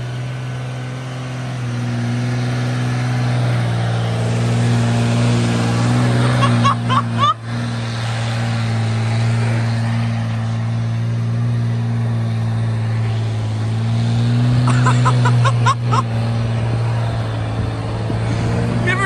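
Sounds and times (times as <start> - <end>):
diesel bus engine droning: 0.0 - 19.0.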